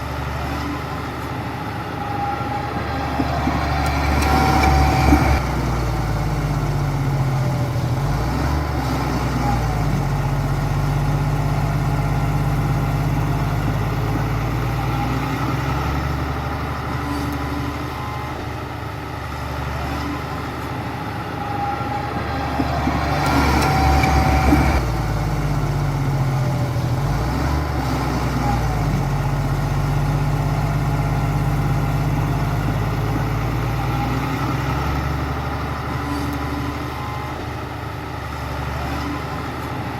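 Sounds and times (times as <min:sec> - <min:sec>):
diesel earthmoving machine running: 0:00.0 - 0:39.9.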